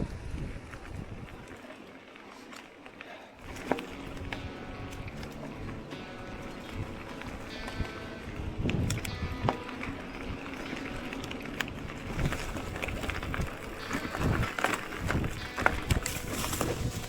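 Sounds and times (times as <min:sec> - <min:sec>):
bike knocks and rattles: 0:00.0 - 0:17.0
bike tyres crunching on ground: 0:00.0 - 0:17.0.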